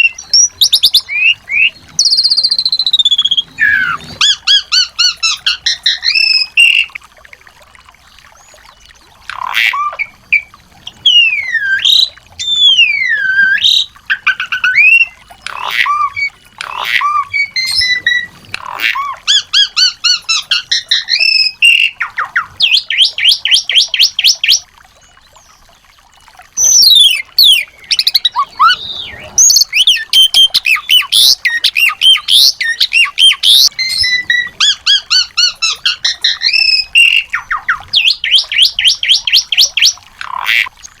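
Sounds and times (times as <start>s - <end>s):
songbirds singing: 0.0s - 7.0s, 7.9s - 41.0s.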